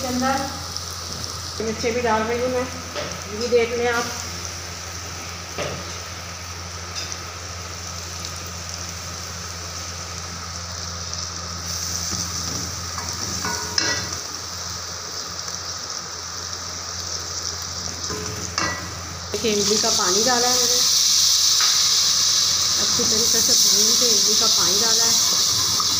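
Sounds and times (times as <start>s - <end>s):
paste sizzling in hot oil: 0.0s - 25.9s.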